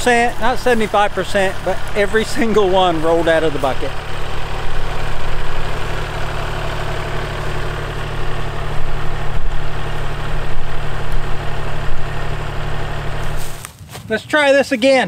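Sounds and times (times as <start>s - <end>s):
tractor diesel engine idling: 0.0s - 13.7s.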